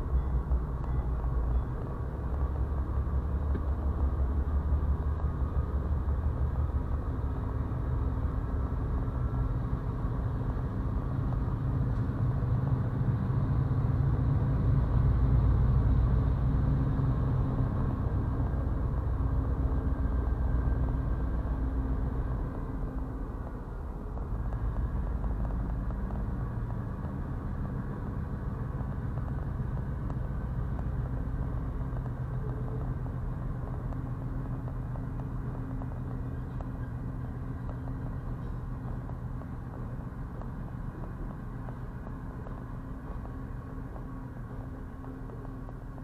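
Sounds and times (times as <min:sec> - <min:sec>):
freight train rumbling: 0:00.0 - 0:46.0.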